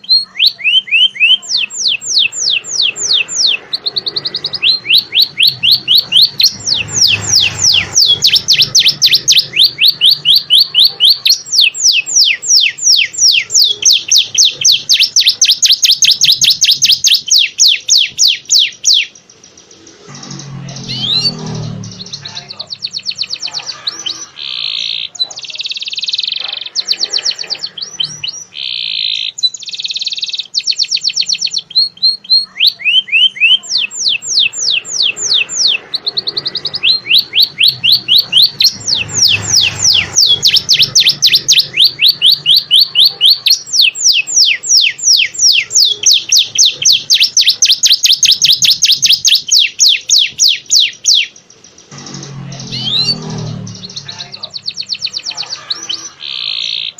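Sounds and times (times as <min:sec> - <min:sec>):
songbird singing trills: 0:00.0 - 0:56.9.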